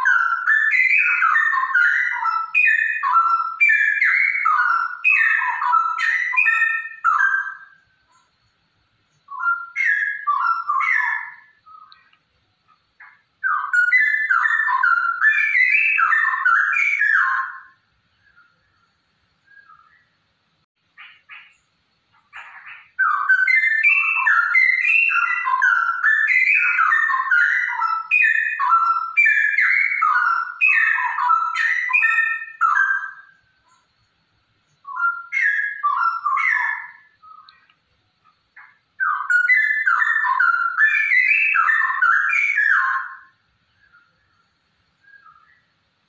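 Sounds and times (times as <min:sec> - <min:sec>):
bird singing bubbling whistles: 0:00.0 - 0:08.2, 0:09.1 - 0:12.1, 0:13.0 - 0:18.4, 0:22.3 - 0:33.8, 0:34.7 - 0:37.7, 0:38.6 - 0:44.0, 0:45.0 - 0:45.7.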